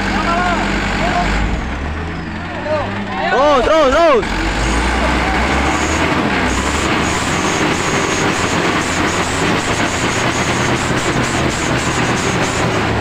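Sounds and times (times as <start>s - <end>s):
truck engines labouring: 0.0s - 13.0s.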